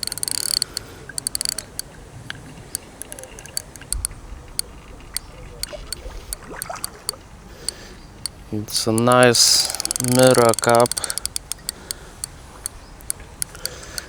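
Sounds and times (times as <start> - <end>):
fishing reel clicking: 0.0 - 2.0, 2.6 - 14.0.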